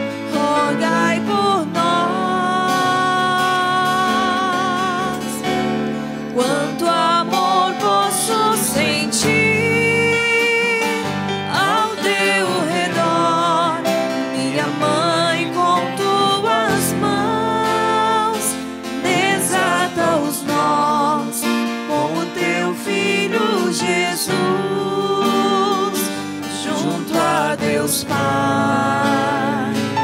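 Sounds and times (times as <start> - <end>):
woman singing with vibrato: 0.0 - 5.7, 6.3 - 30.0
keyboard: 0.0 - 30.0
strummed acoustic guitar: 0.0 - 30.0.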